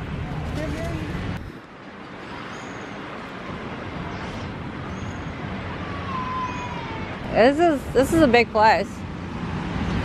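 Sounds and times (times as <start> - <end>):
road traffic rumble and hiss: 0.0 - 10.0.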